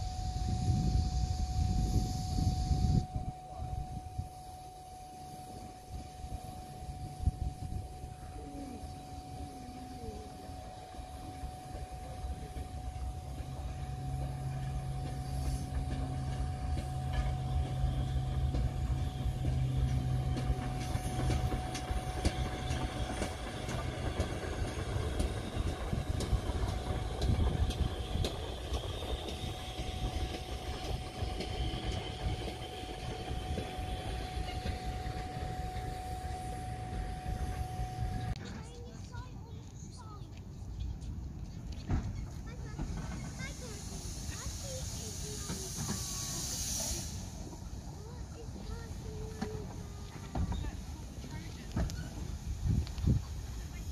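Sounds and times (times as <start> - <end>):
train rumbling past: 0.0 - 53.9
wheels clicking over rail joints: 5.5 - 53.9.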